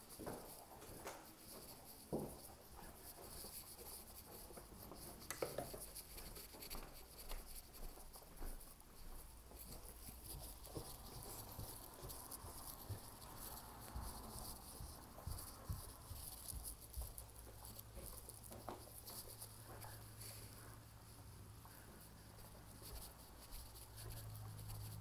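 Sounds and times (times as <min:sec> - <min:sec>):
soft footsteps indoors: 0:00.0 - 0:25.0.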